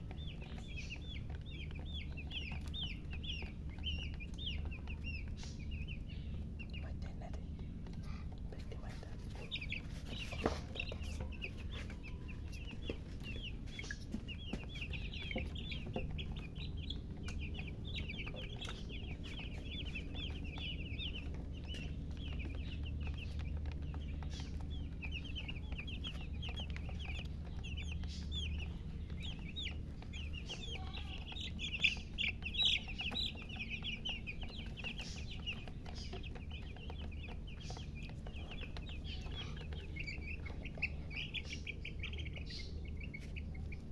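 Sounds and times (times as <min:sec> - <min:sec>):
baby chicks peeping: 0:00.0 - 0:43.9.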